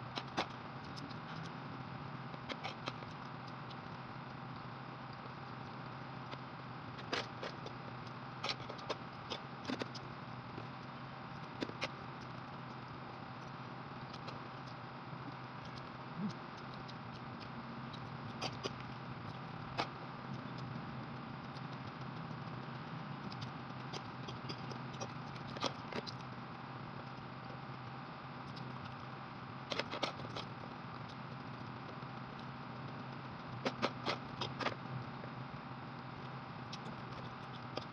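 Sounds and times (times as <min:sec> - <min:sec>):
background hum: 0:00.0 - 0:37.9.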